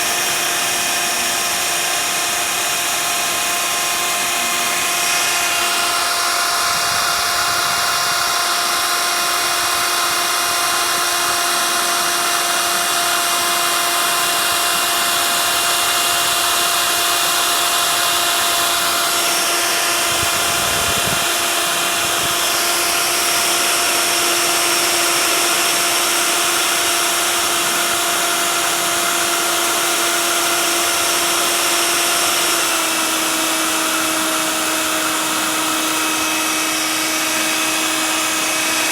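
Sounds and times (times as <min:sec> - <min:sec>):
cnc router spindle whining: 0:00.0 - 0:38.9.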